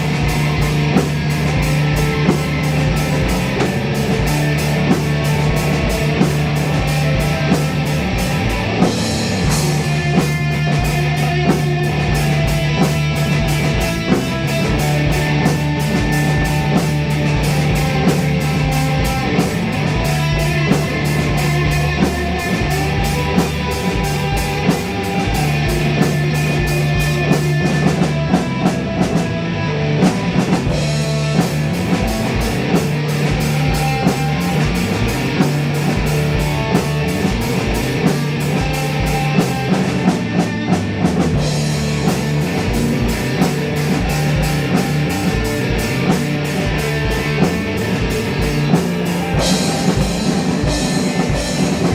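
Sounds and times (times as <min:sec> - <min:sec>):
drum kit cymbal beat: 0:00.0 - 0:29.3, 0:30.0 - 0:51.9
psychedelic rock guitar: 0:00.0 - 0:51.9.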